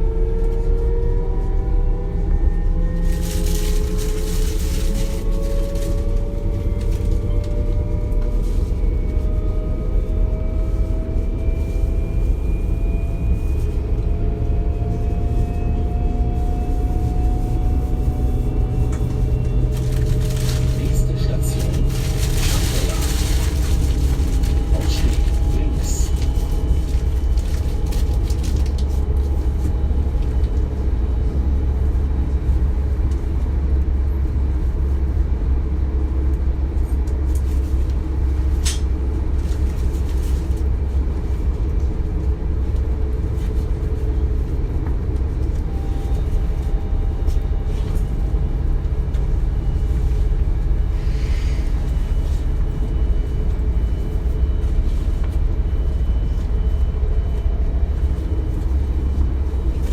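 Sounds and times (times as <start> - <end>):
train interior deep rumble: 0.0 - 59.9.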